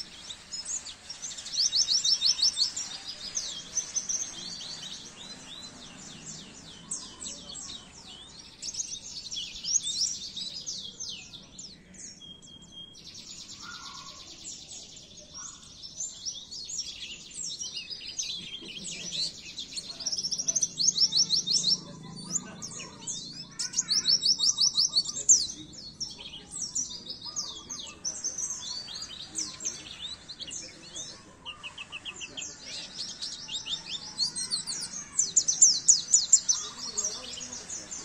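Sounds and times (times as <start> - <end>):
bird singing rapid trills: 0.0 - 38.0.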